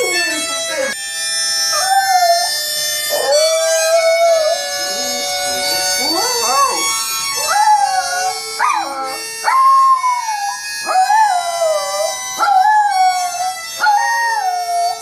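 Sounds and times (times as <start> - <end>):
harmonica chords: 0.0 - 15.0
small dog howling: 1.7 - 5.3, 6.0 - 15.0.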